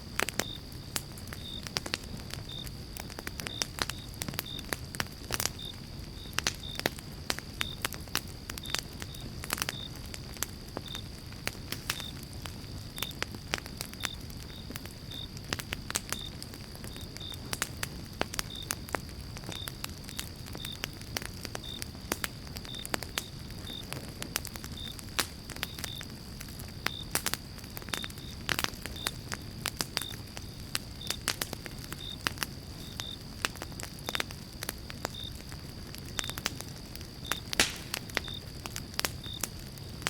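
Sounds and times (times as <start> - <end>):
campfire crackling and popping: 0.0 - 40.0
low roar of flames: 0.0 - 40.0.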